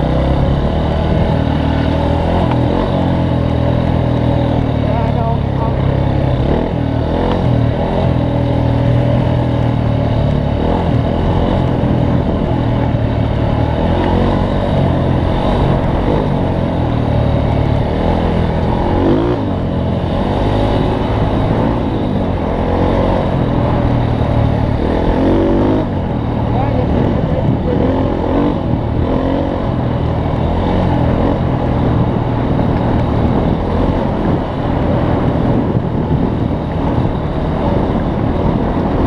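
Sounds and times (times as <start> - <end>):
off-road vehicle engine running: 0.0 - 39.0.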